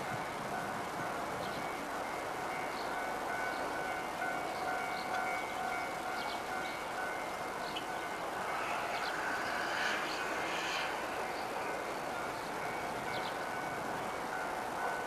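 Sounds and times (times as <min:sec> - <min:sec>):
distant diesel train approaching: 0:00.0 - 0:15.0.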